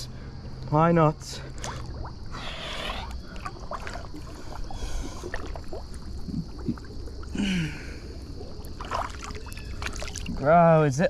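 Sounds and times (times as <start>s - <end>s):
water sloshing around wading person: 1.2s - 11.0s.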